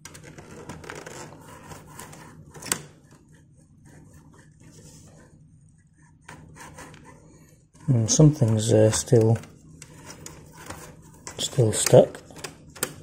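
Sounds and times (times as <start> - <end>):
plastic casing rubbing and scraping: 0.0 - 12.4.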